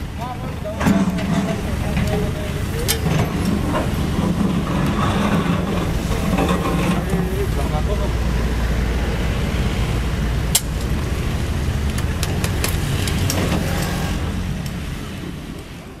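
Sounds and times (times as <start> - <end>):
excavator diesel engine running: 0.0 - 16.0
passing road traffic: 0.0 - 16.0.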